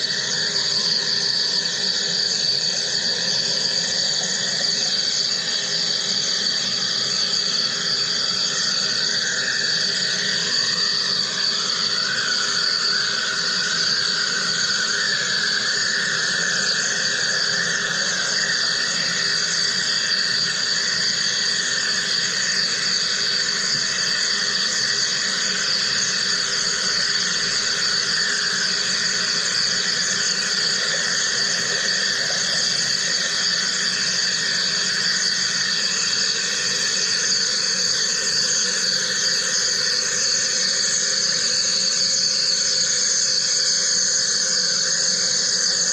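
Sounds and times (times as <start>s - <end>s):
machine high-pitched buzz and hiss: 0.0s - 45.9s.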